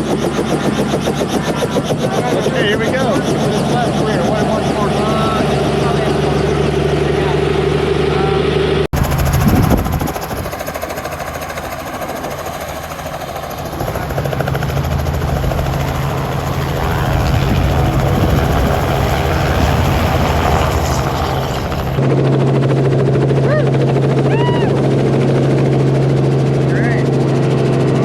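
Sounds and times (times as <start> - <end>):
noisy rush: 0.0 - 23.0
helicopter rotor and engine: 0.0 - 28.0.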